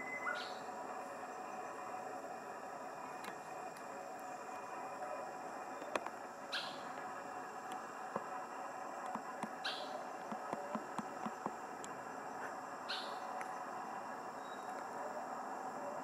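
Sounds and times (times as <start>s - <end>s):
steady high hum: 0.0s - 16.0s.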